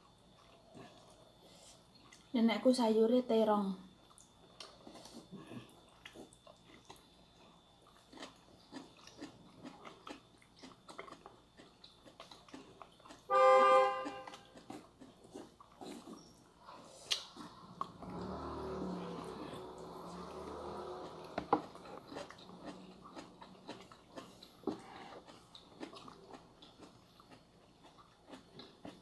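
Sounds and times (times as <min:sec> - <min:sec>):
soft chewing: 0:00.0 - 0:02.4, 0:03.9 - 0:13.3, 0:14.0 - 0:29.0.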